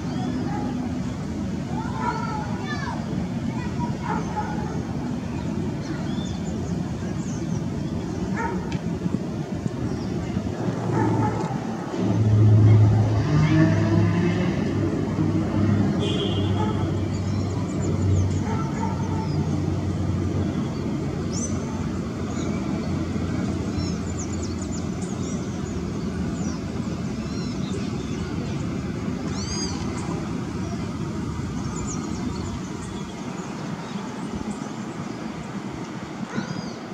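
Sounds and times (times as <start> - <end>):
birds chirping: 0.0 - 13.6, 15.0 - 36.9
airliner propeller drone: 0.0 - 36.9.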